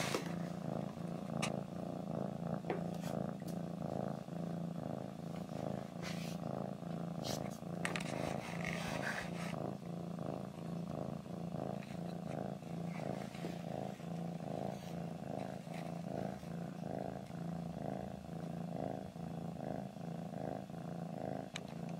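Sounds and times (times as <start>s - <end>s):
cat purring: 0.0s - 21.9s.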